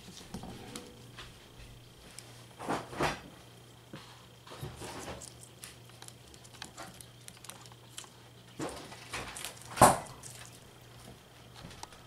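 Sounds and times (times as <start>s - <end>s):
guinea pigs chewing vegetables: 1.0s - 12.0s.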